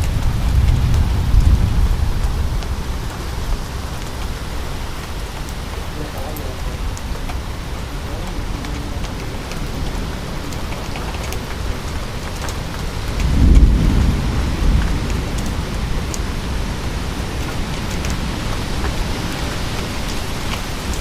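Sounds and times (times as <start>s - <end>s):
rain hissing: 0.0s - 21.0s
raindrops ticking: 0.0s - 21.0s
rolling thunder: 0.0s - 21.0s.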